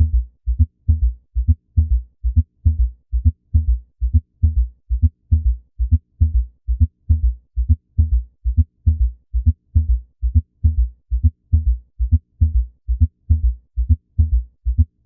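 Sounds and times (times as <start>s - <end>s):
heartbeat gallop rhythm: 0.0s - 15.0s.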